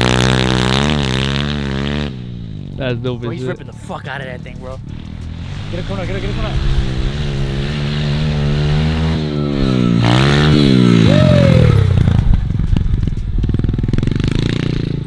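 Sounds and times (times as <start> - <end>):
small motorbike engine revving: 0.0 - 2.7, 4.9 - 15.0.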